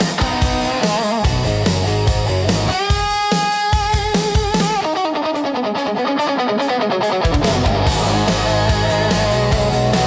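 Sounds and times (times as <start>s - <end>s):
electric guitar lead line: 0.0s - 10.0s
heavy rock music: 0.0s - 10.0s.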